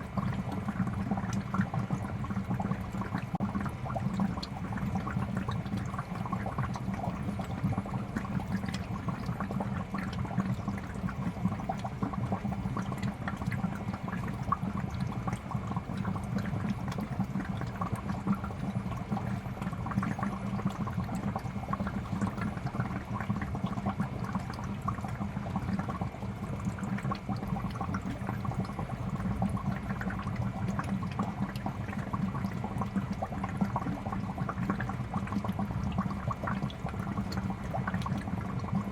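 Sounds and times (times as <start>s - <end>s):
aquarium air pump hum: 0.0s - 38.9s
bubbles popping and gurgling: 0.0s - 38.9s.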